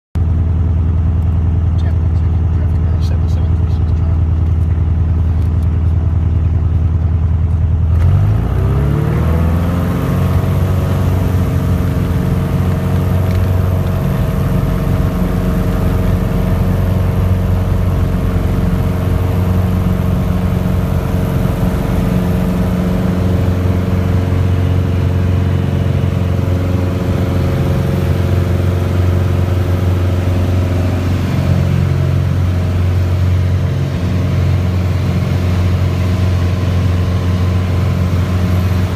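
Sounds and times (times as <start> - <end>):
airplane engine and propeller: 0.2 - 38.9.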